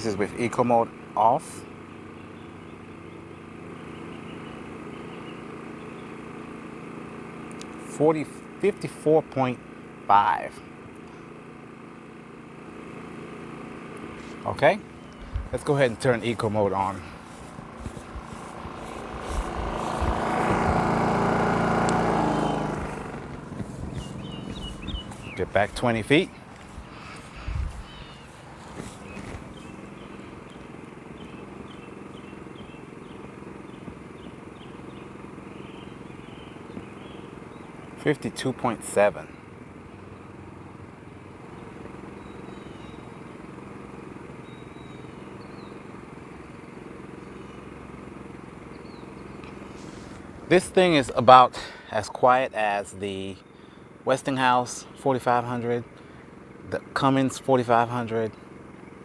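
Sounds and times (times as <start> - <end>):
generator engine running: 0.0 - 59.0.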